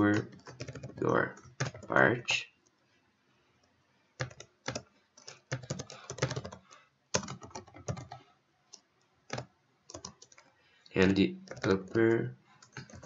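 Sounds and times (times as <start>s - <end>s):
computer keyboard typing: 0.0s - 2.0s, 4.2s - 13.0s.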